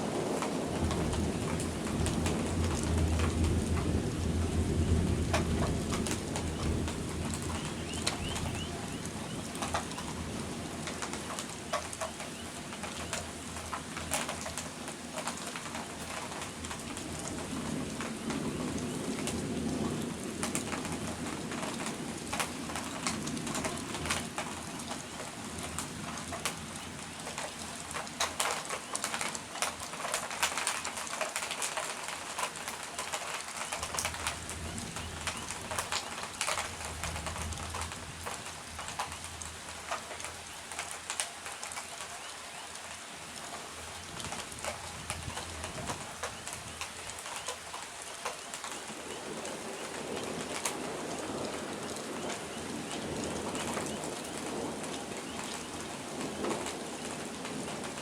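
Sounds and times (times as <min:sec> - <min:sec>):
rain falling and dripping: 0:00.0 - 0:58.0.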